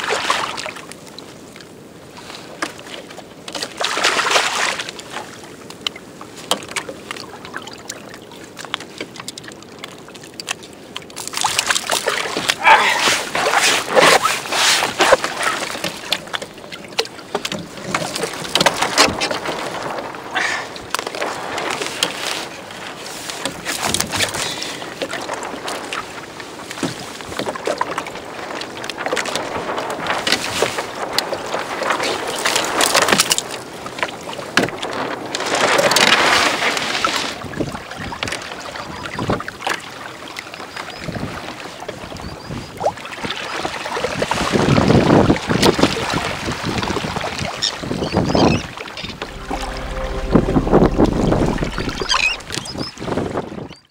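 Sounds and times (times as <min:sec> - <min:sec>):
water lapping against kayak hull: 0:00.0 - 0:50.2.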